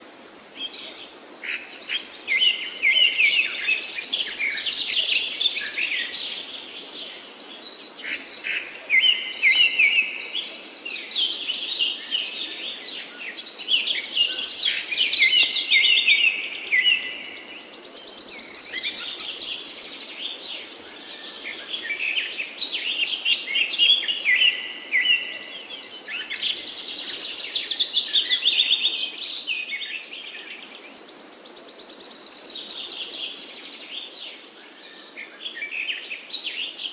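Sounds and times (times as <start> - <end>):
songbirds singing: 0.6 - 36.9.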